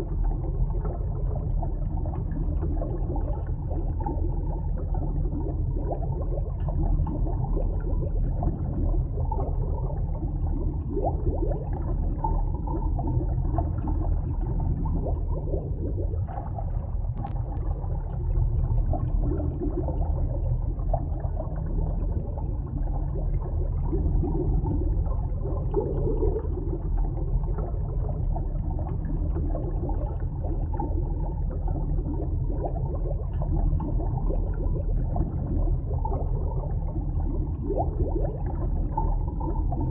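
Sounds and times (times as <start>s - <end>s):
faint gurgling: 0.0s - 39.9s
underwater rumble: 0.0s - 39.9s.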